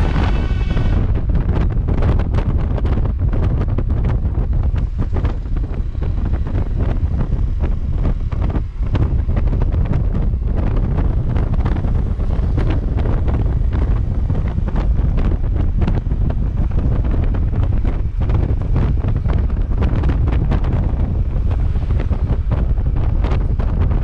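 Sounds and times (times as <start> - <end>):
heavy wind buffeting microphone: 0.0 - 24.0.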